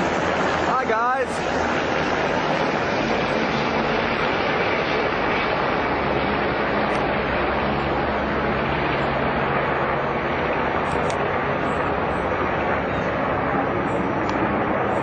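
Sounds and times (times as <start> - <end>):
helicopter rushing noise: 0.0 - 15.0.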